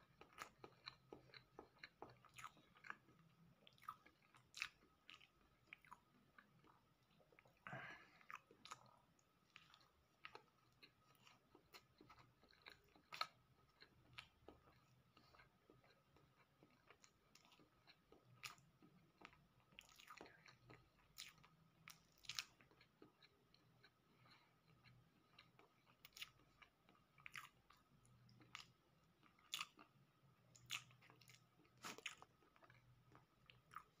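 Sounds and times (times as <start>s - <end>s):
quiet chewing: 0.0s - 34.0s.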